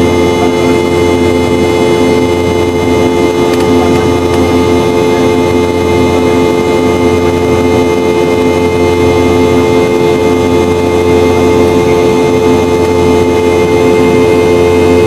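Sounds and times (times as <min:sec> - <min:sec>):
jet engine drone in cabin: 0:00.0 - 0:15.0
jet engine whine: 0:00.0 - 0:15.0.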